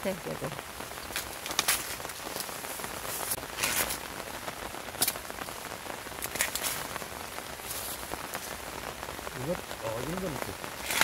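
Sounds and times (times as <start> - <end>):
corn leaves rustling: 0.0 - 11.0.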